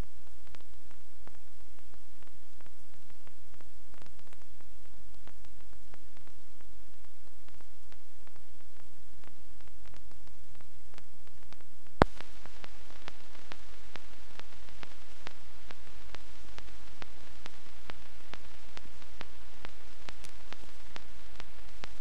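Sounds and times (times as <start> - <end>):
faint ticks: 0.0 - 22.0
steady hiss and low hum: 0.0 - 22.0.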